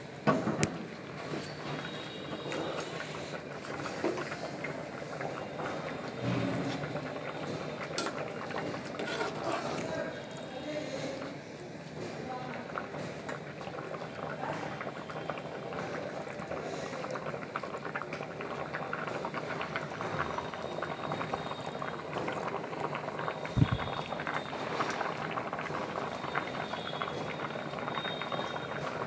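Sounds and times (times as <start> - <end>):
pudding bubbling at a boil: 0.0 - 29.0.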